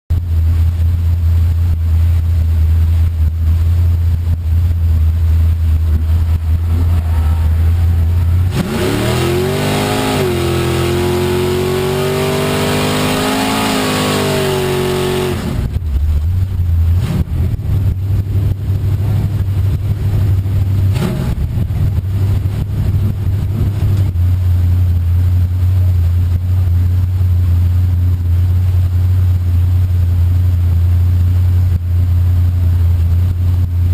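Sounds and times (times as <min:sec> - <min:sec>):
car engine rumbling and revving: 0:00.1 - 0:33.9.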